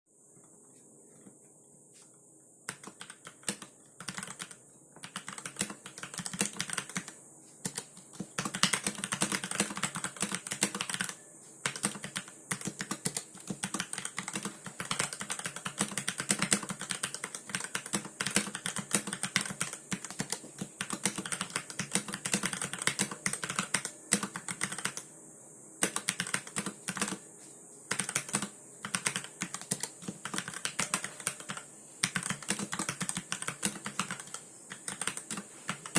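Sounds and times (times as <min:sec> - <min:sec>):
mechanical keyboard typing: 0:02.7 - 0:25.1, 0:25.8 - 0:27.2, 0:27.9 - 0:35.9.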